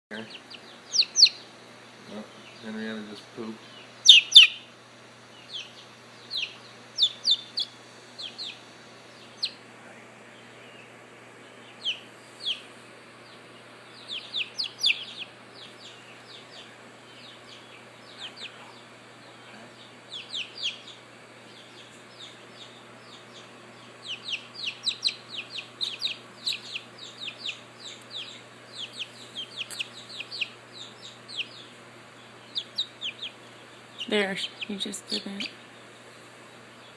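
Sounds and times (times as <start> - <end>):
chicks peeping: 0.1 - 36.9.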